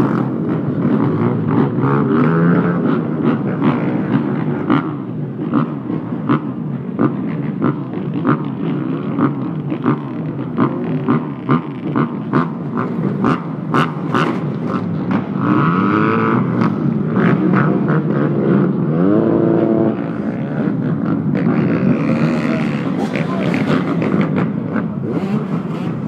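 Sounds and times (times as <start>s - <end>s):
motorbike engines revving: 0.0s - 26.0s.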